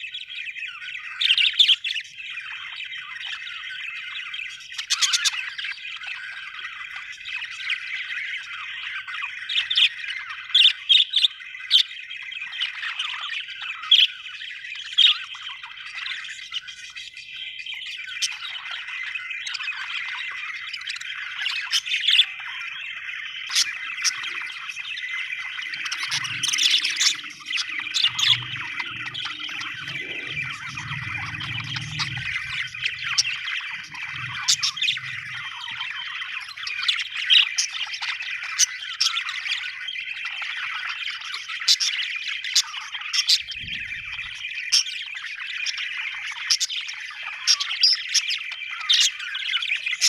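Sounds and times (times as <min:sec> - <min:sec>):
budgerigars warbling and chattering: 0:00.0 - 0:50.0
sharp bird chirps and squawks: 0:00.0 - 0:50.0.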